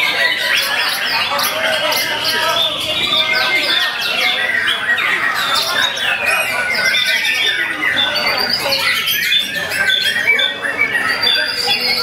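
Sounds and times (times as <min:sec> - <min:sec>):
caged birds singing: 0:00.0 - 0:12.0.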